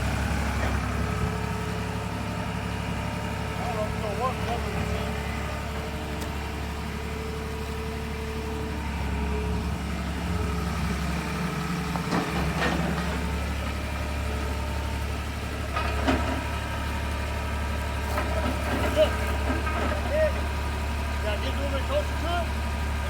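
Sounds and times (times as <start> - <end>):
engine running low hum: 0.0 - 23.0.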